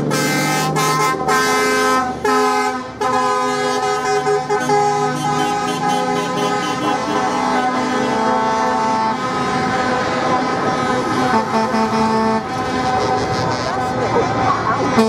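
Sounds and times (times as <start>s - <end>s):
diesel engines rumbling: 0.0s - 15.0s
truck air horns blasting: 0.0s - 15.0s.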